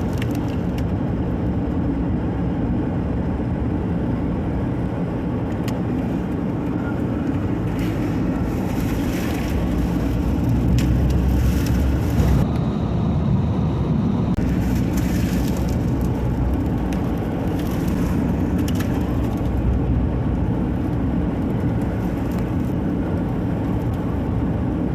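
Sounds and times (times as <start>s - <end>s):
car engine and road noise: 0.0s - 24.9s.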